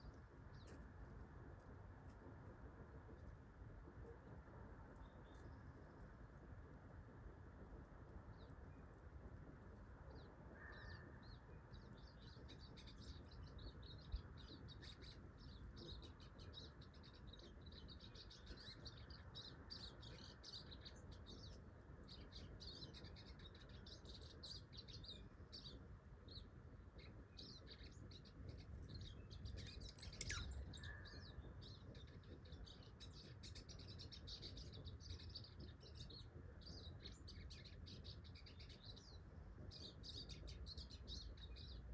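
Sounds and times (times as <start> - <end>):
small birds twittering: 8.1 - 41.9.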